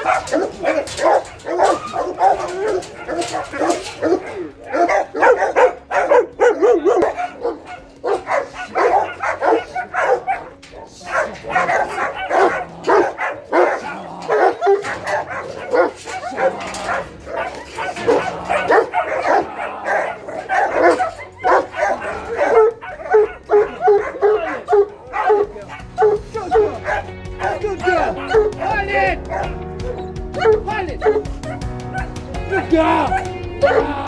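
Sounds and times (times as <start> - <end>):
dogs barking: 0.0 - 34.0.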